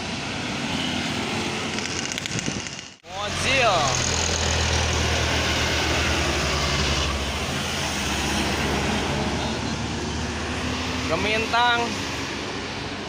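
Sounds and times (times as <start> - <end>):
bus engine droning: 0.0 - 13.0
traffic noise: 0.0 - 13.0.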